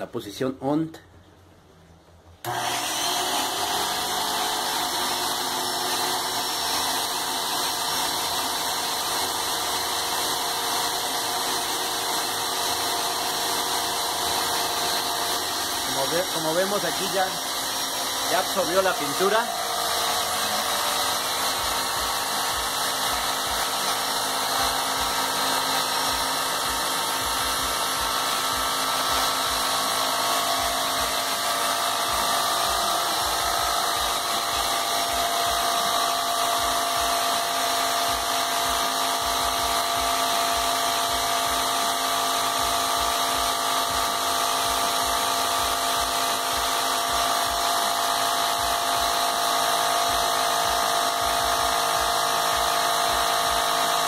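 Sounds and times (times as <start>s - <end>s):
paint sprayer motor humming: 2.4s - 54.0s.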